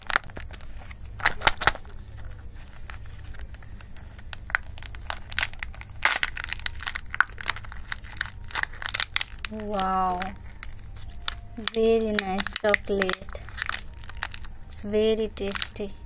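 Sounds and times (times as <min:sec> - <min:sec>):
foil lid crinkling: 0:00.0 - 0:14.6
plastic packaging crackling: 0:00.0 - 0:14.8, 0:15.4 - 0:16.0.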